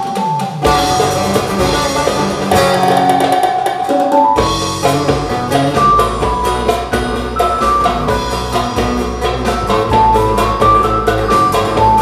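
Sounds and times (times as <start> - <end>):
backing beat: 0.0 - 12.0.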